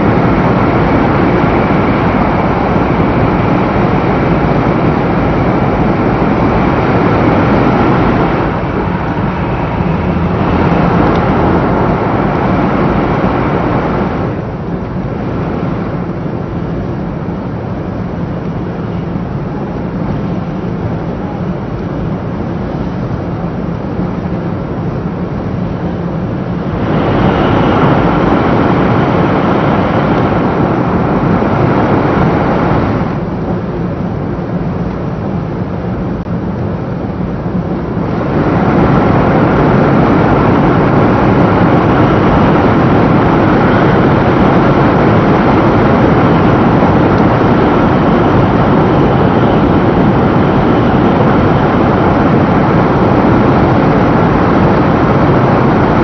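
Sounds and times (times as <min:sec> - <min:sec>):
train running noise: 0:00.0 - 0:56.0
train tunnel roar: 0:00.0 - 0:56.0.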